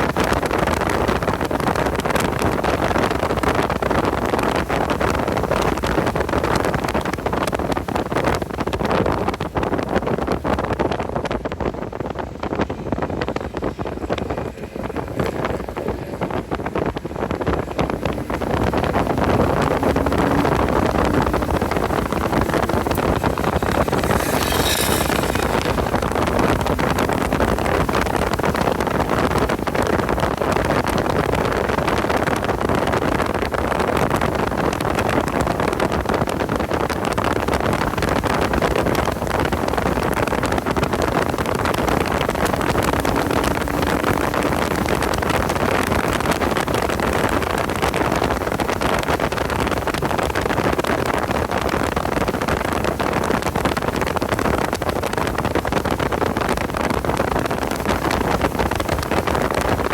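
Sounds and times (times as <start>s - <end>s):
car engine running hard: 0.0s - 59.9s
wind noise on microphone: 0.0s - 59.9s.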